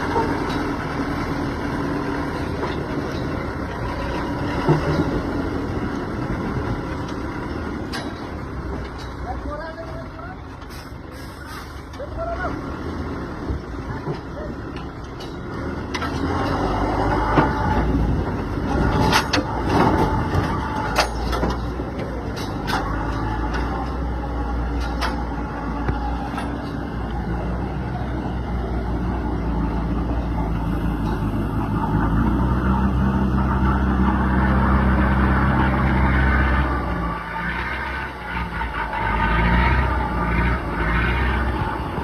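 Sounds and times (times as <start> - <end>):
truck engine running: 0.0 - 42.0.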